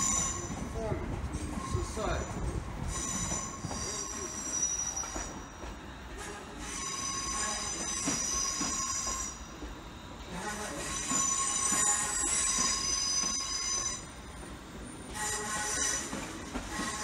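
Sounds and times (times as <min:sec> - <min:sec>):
train wheels squealing: 0:00.0 - 0:17.0.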